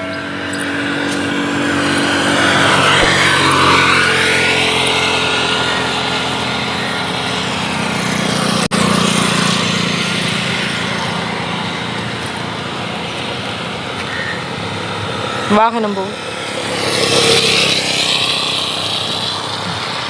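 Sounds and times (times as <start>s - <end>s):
passing vehicle noise: 0.0s - 20.0s
small engine running: 0.0s - 20.0s.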